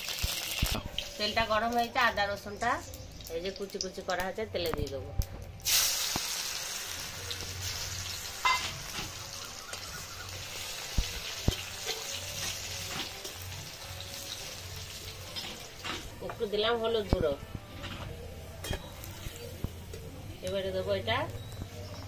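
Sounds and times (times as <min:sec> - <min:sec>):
food sizzling in hot oil: 0:00.0 - 0:21.8.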